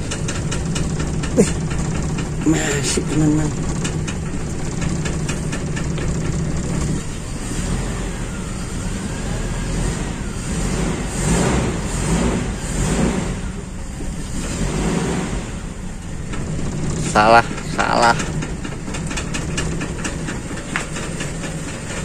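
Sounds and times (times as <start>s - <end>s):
engine running unevenly: 0.0s - 22.0s.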